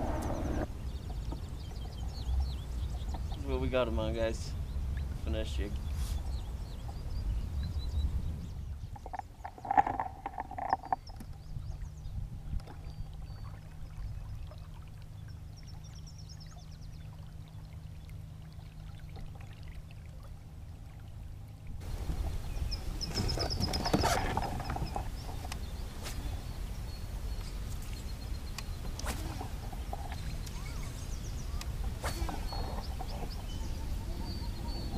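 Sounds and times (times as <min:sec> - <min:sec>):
birds chirping: 0:00.0 - 0:19.4, 0:21.8 - 0:34.9.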